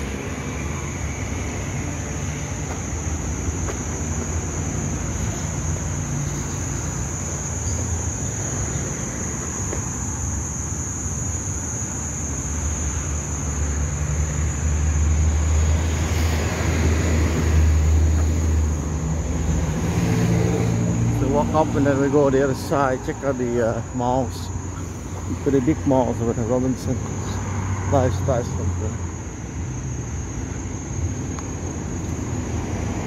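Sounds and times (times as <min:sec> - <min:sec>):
constant high-pitched whine: 0:00.0 - 0:33.0
passing vehicles rumbling: 0:00.0 - 0:33.0.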